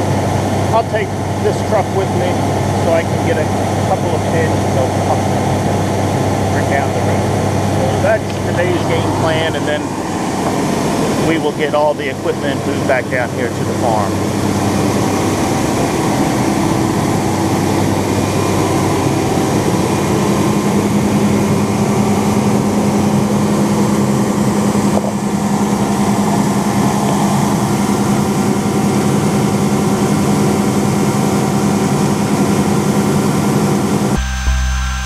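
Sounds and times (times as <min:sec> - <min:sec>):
tractor engine humming: 0:00.0 - 0:34.8.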